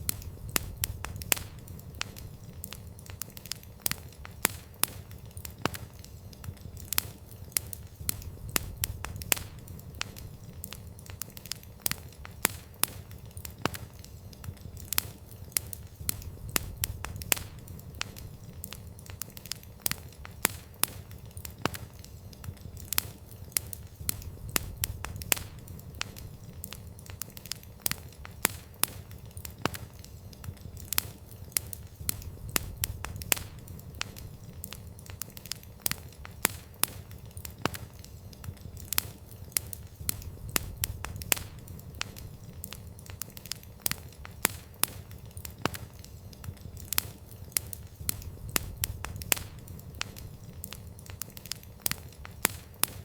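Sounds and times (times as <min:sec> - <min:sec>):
low rumble of flames: 0:00.0 - 0:53.0
wood fire crackling and popping: 0:00.0 - 0:53.0.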